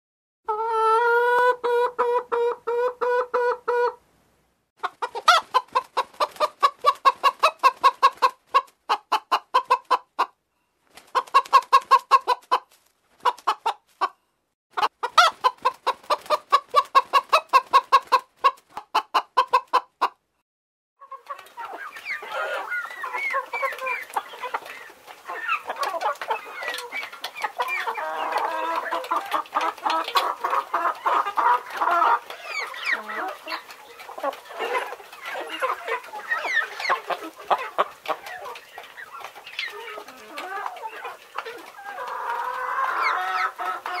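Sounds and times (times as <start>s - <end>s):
chicken clucking: 0.5s - 4.0s, 4.8s - 10.4s, 11.0s - 20.2s, 21.0s - 44.0s
flock of chickens clucking: 0.5s - 4.0s, 4.8s - 10.4s, 11.0s - 14.2s, 14.8s - 20.2s, 21.0s - 44.0s.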